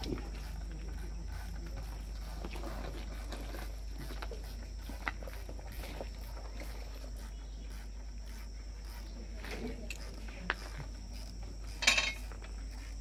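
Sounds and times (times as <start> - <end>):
insects droning: 0.0 - 13.0
steady low hum: 0.0 - 13.0.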